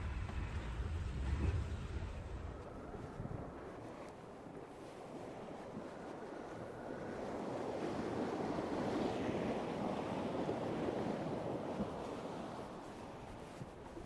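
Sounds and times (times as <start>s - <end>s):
water splashing along a hull: 0.0s - 14.0s.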